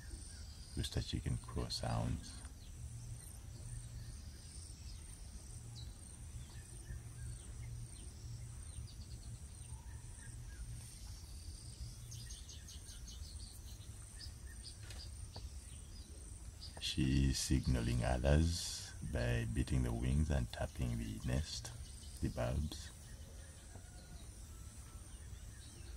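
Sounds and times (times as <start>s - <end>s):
bird chirps: 0.0s - 25.9s.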